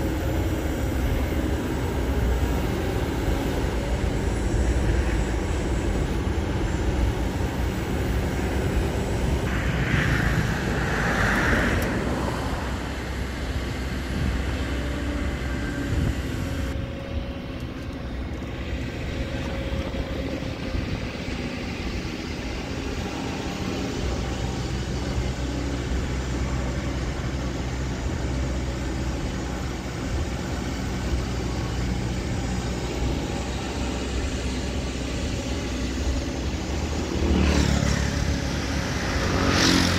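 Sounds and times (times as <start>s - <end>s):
excavator diesel engine running: 0.0s - 39.9s
high-pitched whine: 0.0s - 39.9s.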